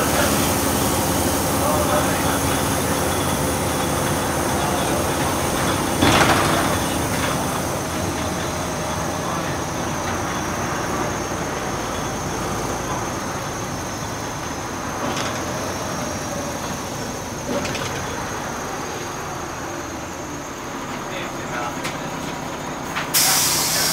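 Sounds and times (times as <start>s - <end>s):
bus diesel engine: 0.0s - 23.9s
road noise: 0.0s - 23.9s.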